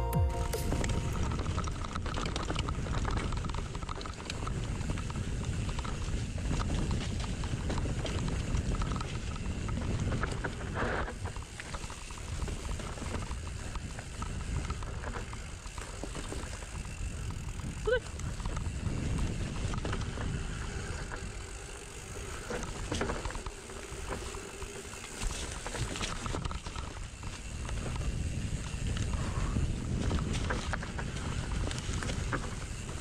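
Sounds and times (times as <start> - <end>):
wind and tyres rumbling: 1.3 - 33.0
bike chain and frame rattling: 1.4 - 33.0.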